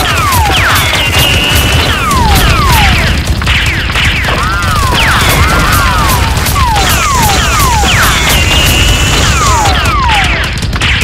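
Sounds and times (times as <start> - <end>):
rapid crackling shots: 0.0 - 11.0.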